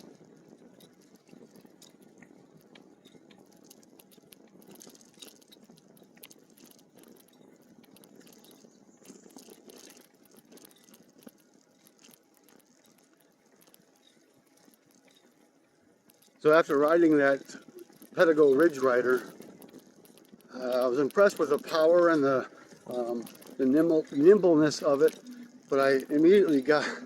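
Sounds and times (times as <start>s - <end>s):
bike tyres rolling over trail: 0.0s - 27.0s.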